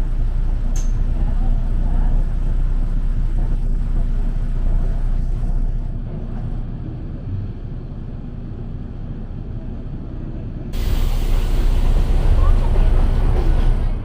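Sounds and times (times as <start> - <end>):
electric train low rumble: 0.0 - 14.0.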